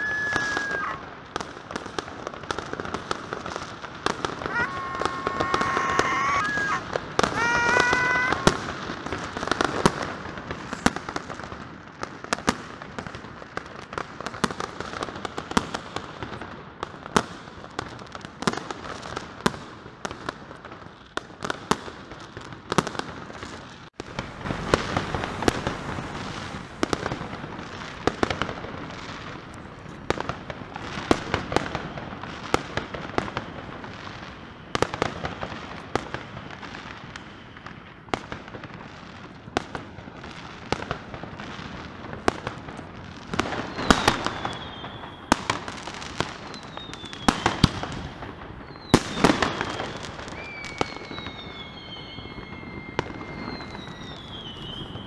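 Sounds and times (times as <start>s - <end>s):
fireworks and firecrackers banging: 0.0s - 55.0s.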